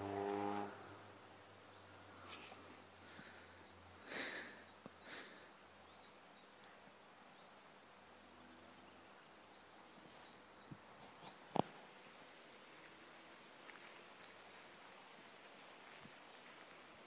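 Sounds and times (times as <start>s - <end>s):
quiet outdoor ambience: 0.0s - 17.0s.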